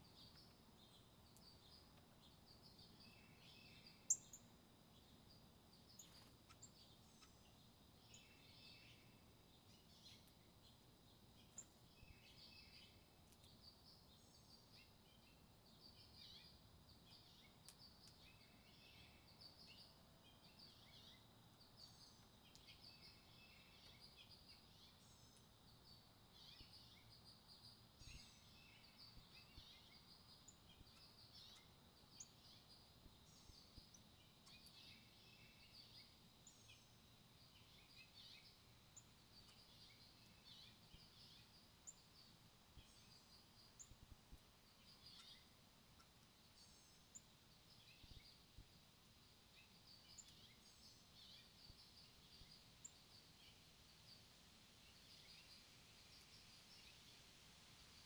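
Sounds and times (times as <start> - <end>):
low outdoor background hum: 0.0 - 58.0
songbirds chirping: 0.0 - 58.0.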